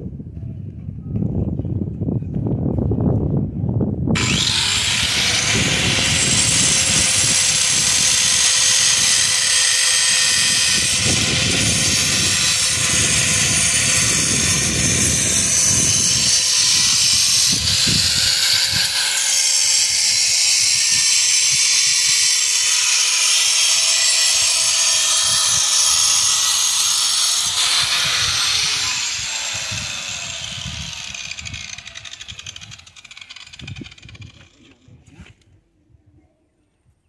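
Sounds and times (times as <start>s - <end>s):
power tool motor running: 4.2s - 34.6s.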